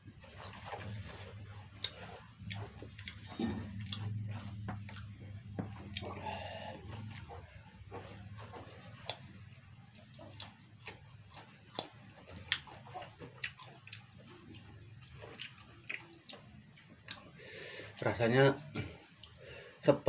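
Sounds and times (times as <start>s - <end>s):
chewing and mouth smacking: 0.0s - 18.0s, 18.6s - 19.6s
low steady hum: 0.0s - 20.0s.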